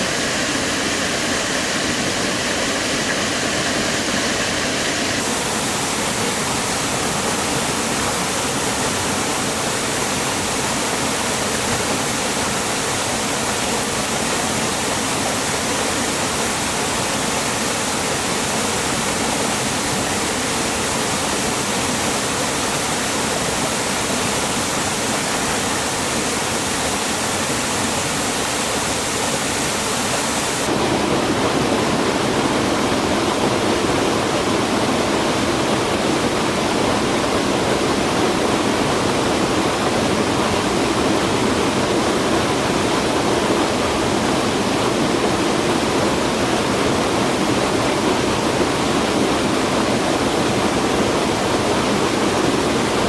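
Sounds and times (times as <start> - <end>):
rushing stream water: 0.0 - 53.0.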